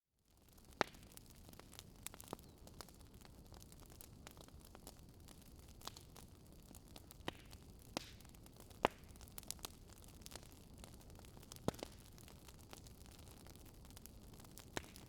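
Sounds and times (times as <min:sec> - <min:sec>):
wood fire crackling: 0:00.3 - 0:15.0.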